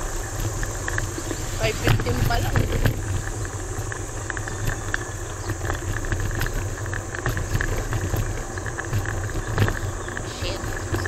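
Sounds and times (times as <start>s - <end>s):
small rattles: 0.0s - 11.0s
tyre and road noise: 0.0s - 11.0s
wind rumble on microphone: 0.0s - 11.0s.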